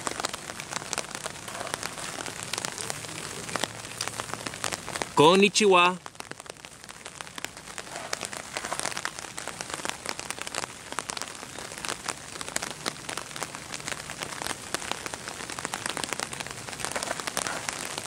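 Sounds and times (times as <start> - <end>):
raindrops pattering close by: 0.0 - 18.0
steady rain falling: 0.0 - 18.0.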